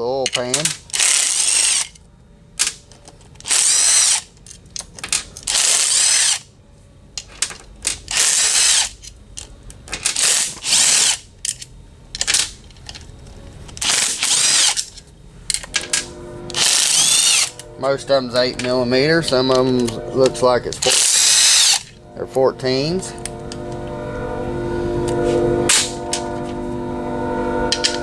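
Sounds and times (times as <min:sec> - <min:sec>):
cordless power driver spinning: 0:00.5 - 0:02.0, 0:02.7 - 0:04.4, 0:07.7 - 0:28.0.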